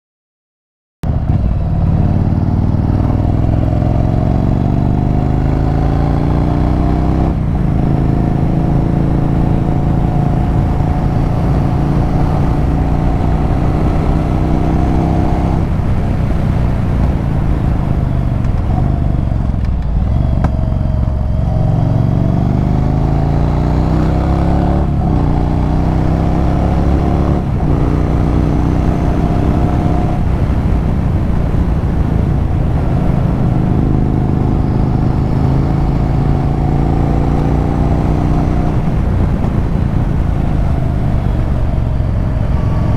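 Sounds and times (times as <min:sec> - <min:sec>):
motorcycle accelerating through gears: 0:01.1 - 0:42.9.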